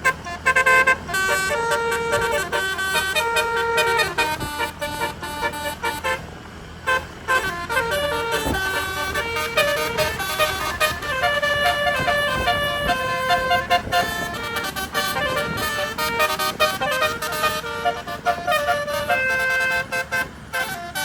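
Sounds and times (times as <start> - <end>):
multi-note bus horn melody: 0.0 - 21.0.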